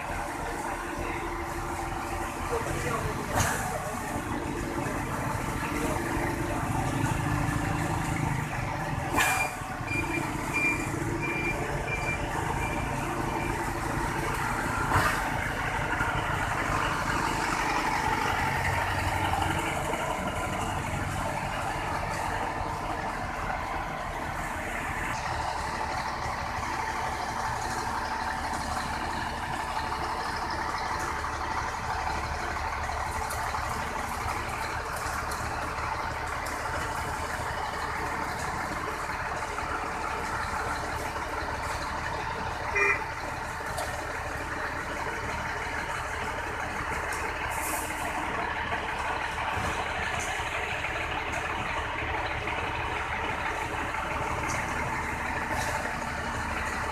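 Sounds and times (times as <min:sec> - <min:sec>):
concrete mixer truck running: 0:00.0 - 0:56.9.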